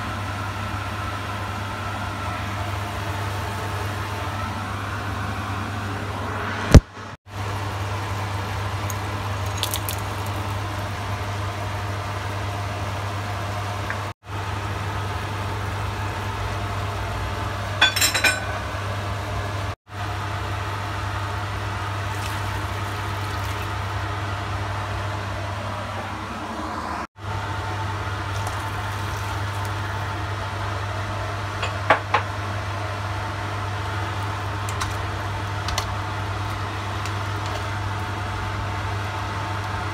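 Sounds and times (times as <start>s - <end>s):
kitchen background hum: 0.0s - 39.9s.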